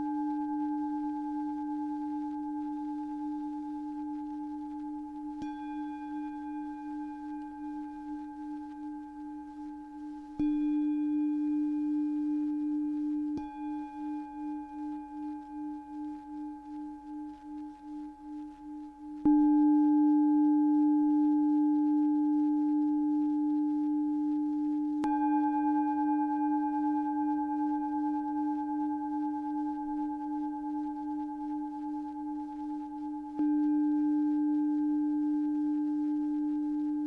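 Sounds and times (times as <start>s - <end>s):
singing bowl ringing: 0.0s - 37.0s.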